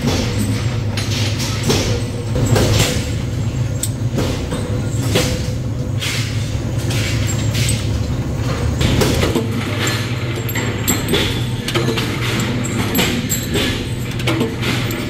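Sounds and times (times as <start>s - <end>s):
metallic clanks: 0.0s - 15.0s
workshop machinery hum: 0.0s - 15.0s.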